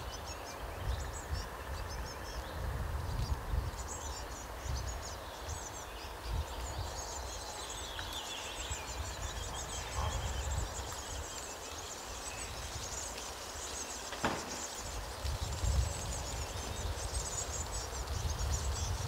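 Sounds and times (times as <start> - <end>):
nestling birds chirping: 0.0 - 19.0.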